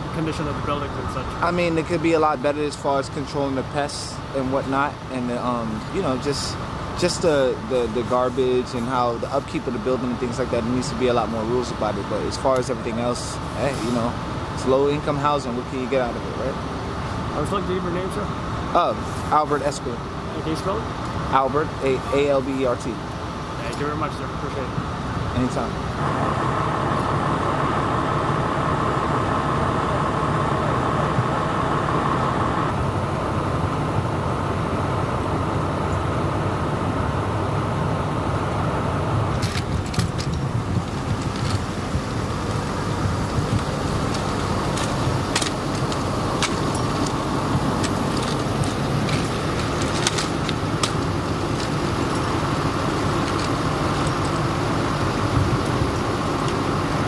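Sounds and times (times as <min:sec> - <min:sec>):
idling engines and street traffic: 0:00.0 - 0:57.0.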